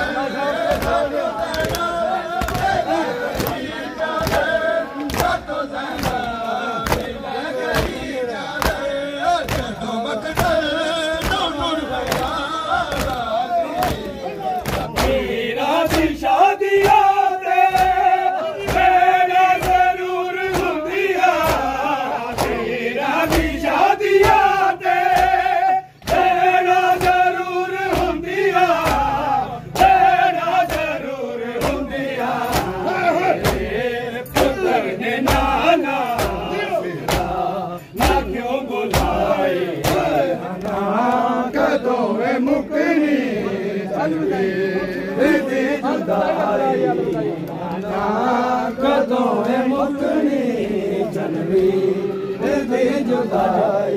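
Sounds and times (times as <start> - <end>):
men chanting in unison: 0.0 - 53.9
rhythmic chest-beating thumps: 0.0 - 53.9.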